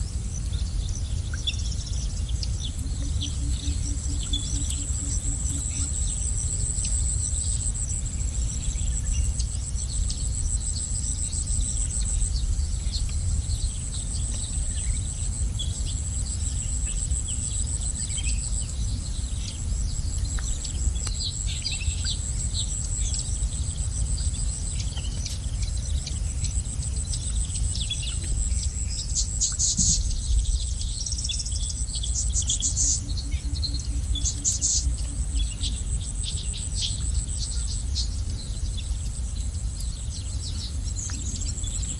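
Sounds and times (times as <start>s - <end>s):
high-pitched insect drone: 0.0s - 24.9s, 25.6s - 41.9s
constant low rumble: 0.0s - 41.9s
small birds chirping: 0.0s - 41.9s.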